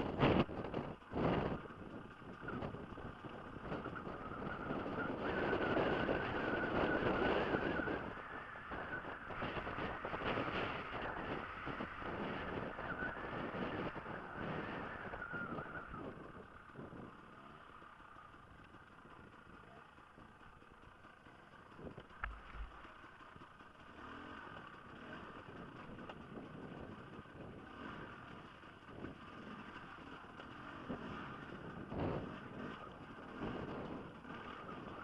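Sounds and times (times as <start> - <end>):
motorcycle engine at low revs: 0.0 - 35.0.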